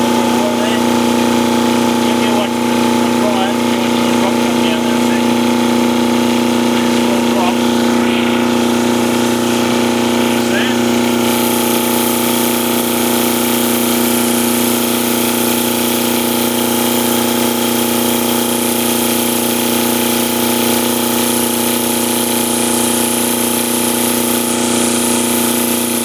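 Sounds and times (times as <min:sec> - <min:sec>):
diesel generator running: 0:00.0 - 0:26.0.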